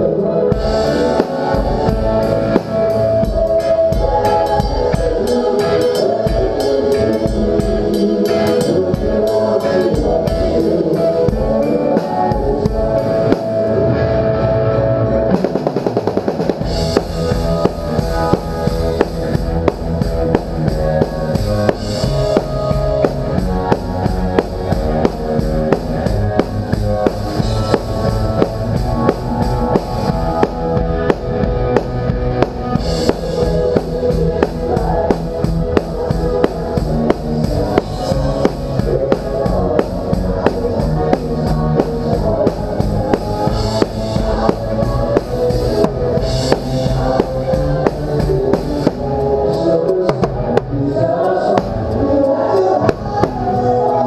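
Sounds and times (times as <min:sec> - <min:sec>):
rock band playing live: 0:00.0 - 0:54.0
drums and cymbals: 0:00.5 - 0:13.6, 0:15.4 - 0:54.0.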